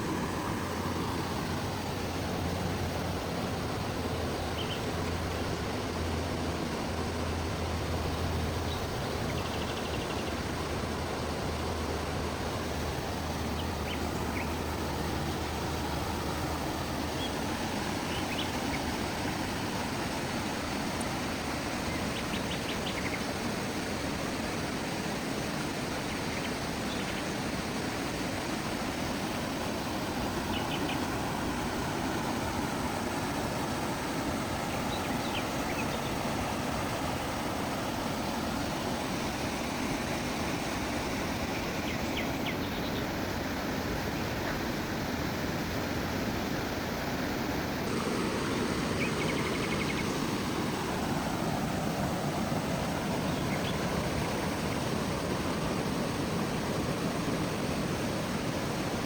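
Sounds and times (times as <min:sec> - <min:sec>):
low engine hum: 0:00.0 - 0:59.0
steady rushing noise: 0:00.0 - 0:59.0.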